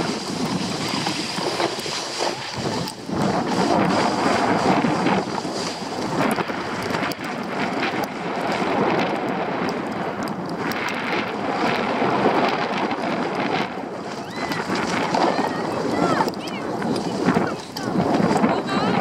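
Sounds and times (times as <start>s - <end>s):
skis scraping over snow: 0.0s - 19.0s
wind on microphone: 0.0s - 19.0s.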